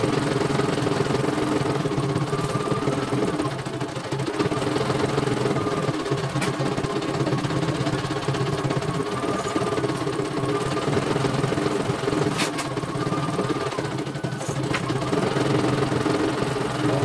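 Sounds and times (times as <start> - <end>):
embroidery machine stitching: 0.0 - 17.0.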